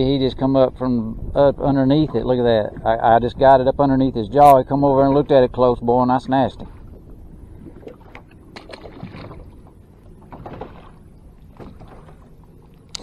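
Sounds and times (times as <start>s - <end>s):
choppy water against a boat: 0.0s - 13.0s
wind: 0.0s - 13.0s.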